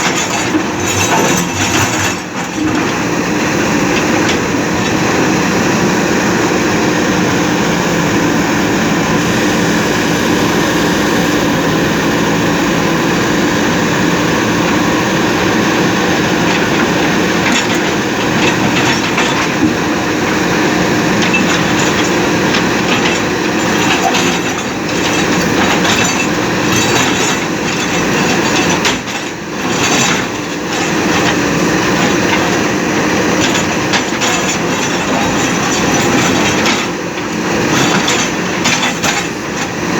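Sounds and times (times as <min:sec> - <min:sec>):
diesel engines under load: 0:00.0 - 0:39.9.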